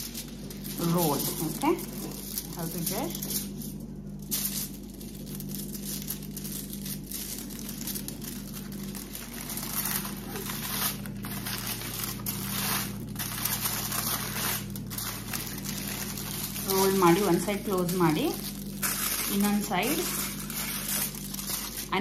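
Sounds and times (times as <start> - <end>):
aluminium foil crinkling: 0.0 - 22.0
steady low hum: 0.0 - 22.0.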